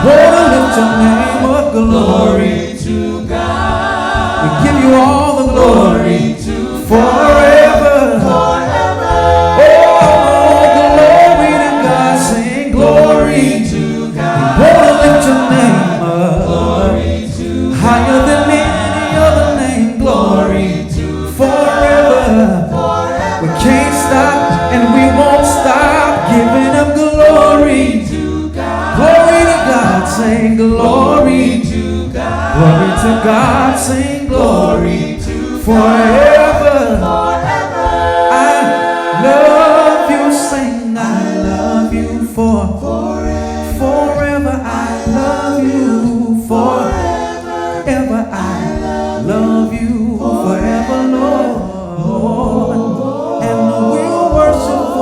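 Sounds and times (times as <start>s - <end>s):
group singing gospel song: 0.0s - 55.0s.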